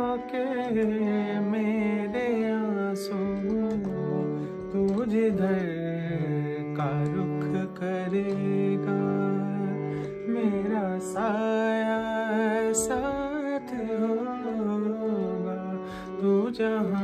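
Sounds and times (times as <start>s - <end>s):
held accompaniment notes: 0.0s - 17.0s
man singing a slow melody: 0.0s - 17.0s.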